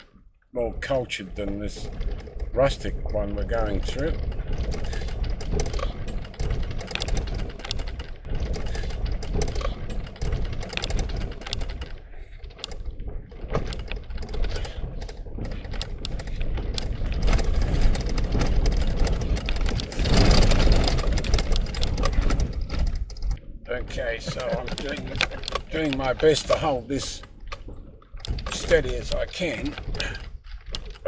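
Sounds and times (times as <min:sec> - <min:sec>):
car tyres rumbling on dirt road: 0:00.0 - 0:31.0
rattling and knocking: 0:00.0 - 0:31.0.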